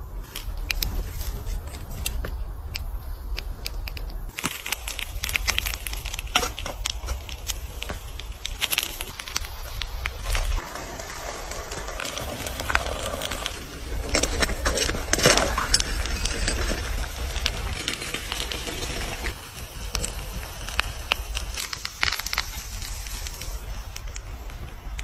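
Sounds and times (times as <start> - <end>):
stove flames crackling: 0.0 - 25.0
wind rumbling on microphone: 0.0 - 25.0.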